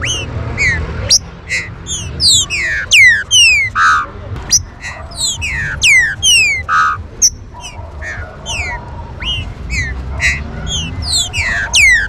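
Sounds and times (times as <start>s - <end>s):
bird whistling quick falling notes: 0.0s - 12.0s.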